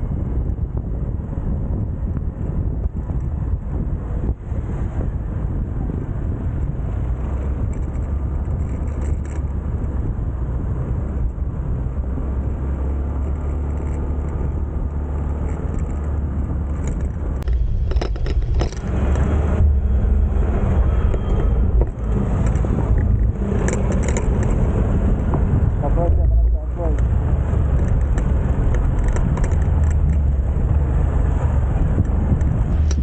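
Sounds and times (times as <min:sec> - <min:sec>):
wind and road noise: 0:00.0 - 0:33.0
motorcycle engine running: 0:01.6 - 0:33.0.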